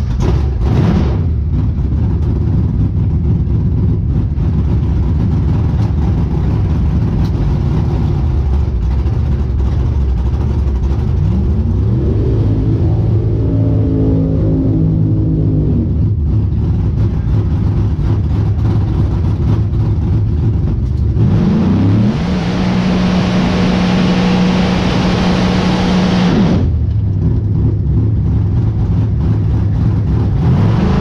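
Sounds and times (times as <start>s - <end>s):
drag car engine revving: 0.0s - 31.0s.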